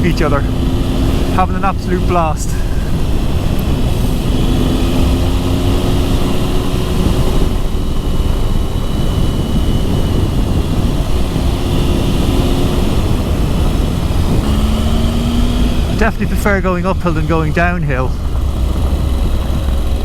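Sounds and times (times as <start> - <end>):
motorcycle engine: 0.0 - 20.0
wind rush on microphone: 0.0 - 20.0.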